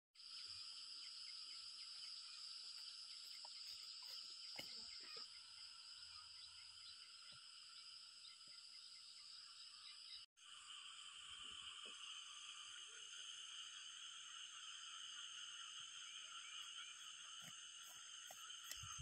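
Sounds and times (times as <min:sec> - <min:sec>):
insects buzzing: 0:00.2 - 0:19.0.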